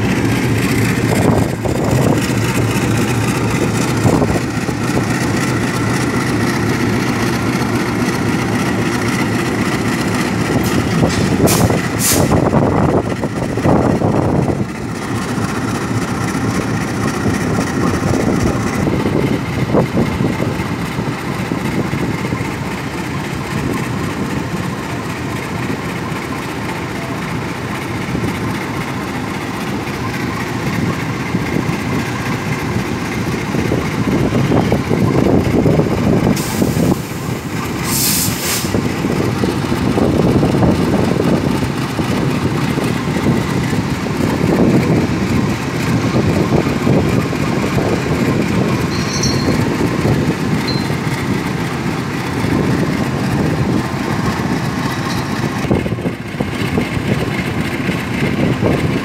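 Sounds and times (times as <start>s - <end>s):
locomotive engine humming: 0.0s - 59.0s.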